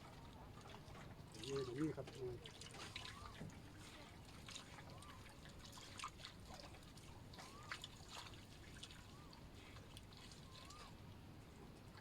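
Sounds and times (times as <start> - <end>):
water trickling and dripping: 0.2 - 11.2.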